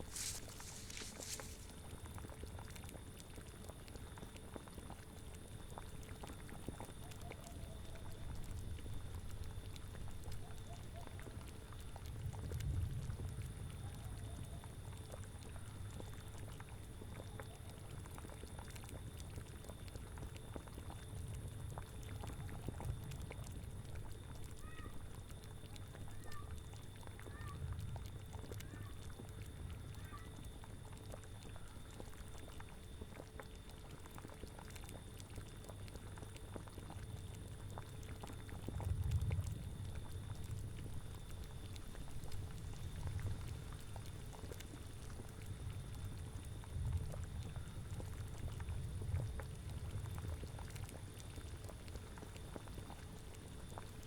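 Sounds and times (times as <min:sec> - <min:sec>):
cauldron bubbling softly: 0:00.0 - 0:54.0.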